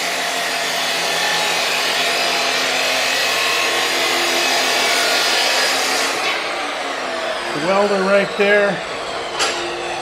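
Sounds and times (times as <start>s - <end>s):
chop saw grinding metal: 0.0s - 8.4s
saw motor whine: 0.0s - 10.0s.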